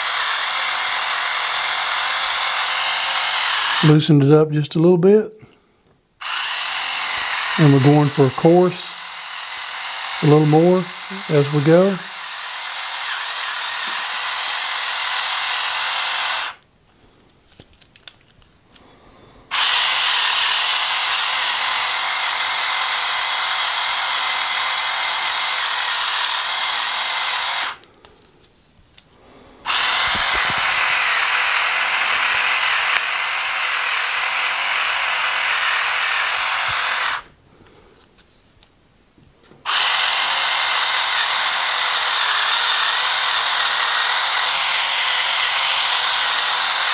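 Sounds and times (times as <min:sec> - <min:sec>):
electric pepper grinder whirring: 0:00.0 - 0:04.0, 0:06.2 - 0:16.6, 0:19.5 - 0:28.0, 0:29.6 - 0:37.3, 0:39.6 - 0:46.9.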